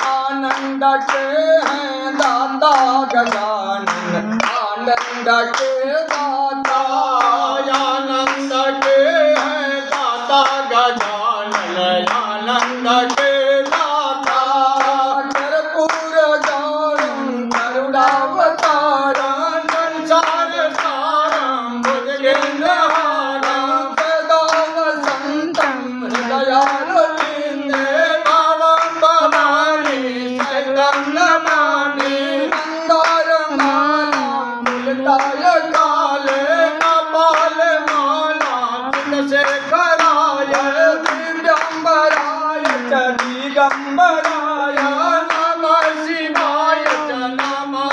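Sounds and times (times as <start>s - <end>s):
hand-clapping in time: 0.0s - 47.9s
people singing a hymn: 0.0s - 47.9s.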